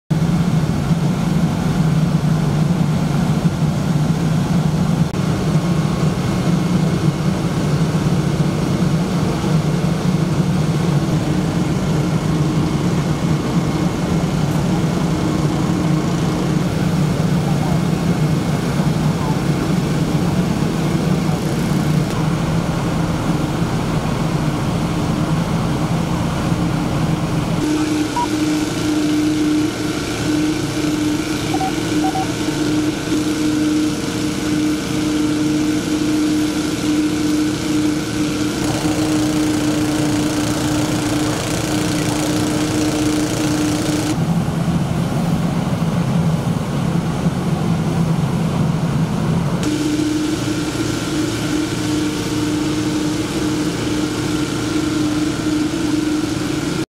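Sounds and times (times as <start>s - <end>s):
fire engine running: 0.1s - 56.8s.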